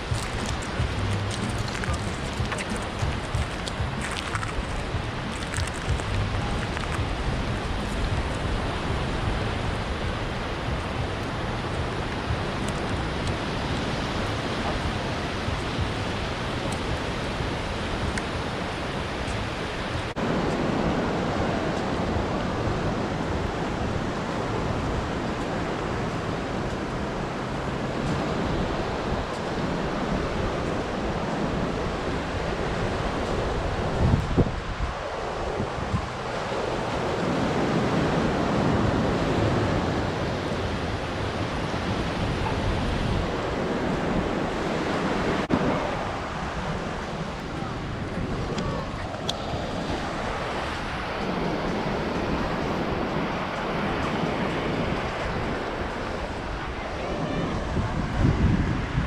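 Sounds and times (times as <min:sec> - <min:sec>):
sea surf rushing: 0:00.0 - 0:59.0
wind buffeting microphone: 0:00.0 - 0:59.0.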